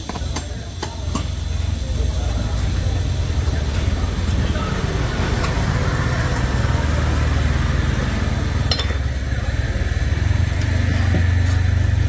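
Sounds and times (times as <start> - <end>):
motor low rumble: 1.6 - 12.0.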